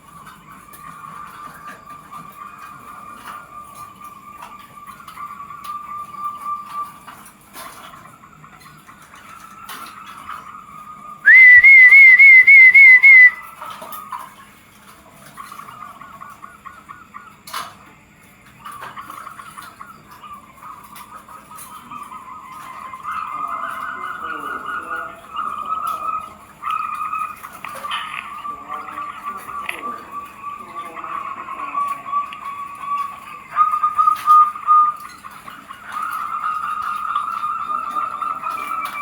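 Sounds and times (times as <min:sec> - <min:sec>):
doves cooing in trills: 0:00.0 - 0:14.2, 0:18.5 - 0:39.0.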